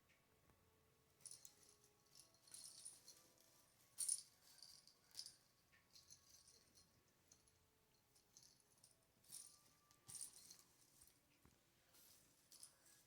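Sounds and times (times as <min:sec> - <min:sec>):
christmas tree ornaments jingling: 0:01.2 - 0:11.2, 0:12.0 - 0:13.0.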